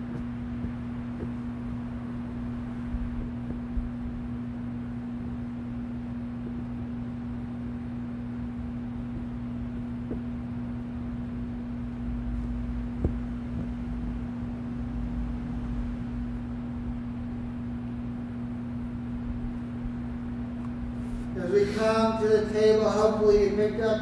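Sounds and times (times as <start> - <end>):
electrical hum: 0.0 - 24.0
faint room rumble: 0.0 - 24.0.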